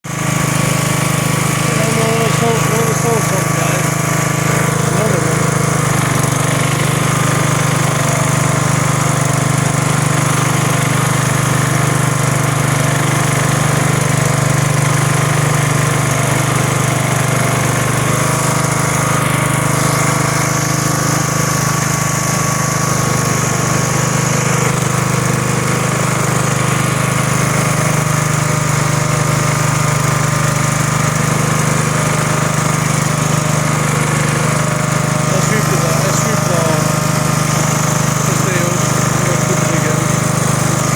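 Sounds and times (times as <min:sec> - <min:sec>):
vehicle engine droning: 0:00.1 - 0:40.9.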